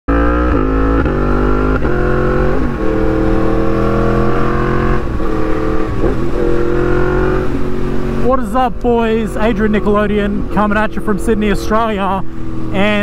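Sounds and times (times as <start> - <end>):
motorcycle engine revving through gears: 0.1 - 13.0.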